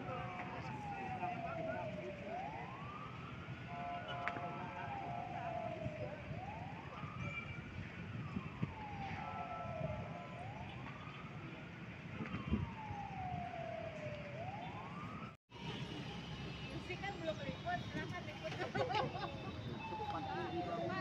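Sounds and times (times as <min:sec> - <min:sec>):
emergency siren wailing: 0:00.0 - 0:21.0
street traffic rumble: 0:00.0 - 0:21.0.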